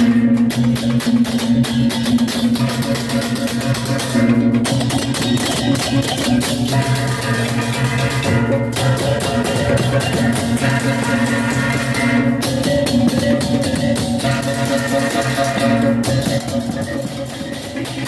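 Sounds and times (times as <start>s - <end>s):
gamelan struck metal and drums: 0.0s - 18.0s.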